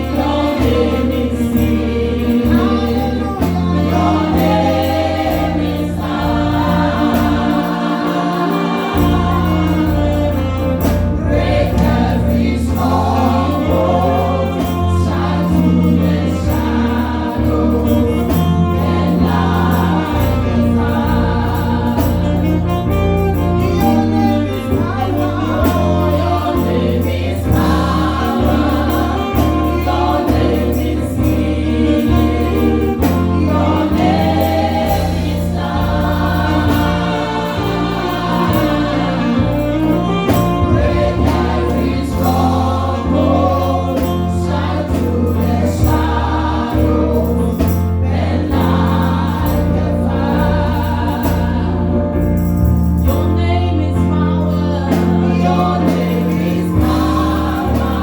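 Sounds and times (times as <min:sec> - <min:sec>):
band with strong bass line: 0:00.0 - 0:58.0
choir singing gospel: 0:00.0 - 0:58.0.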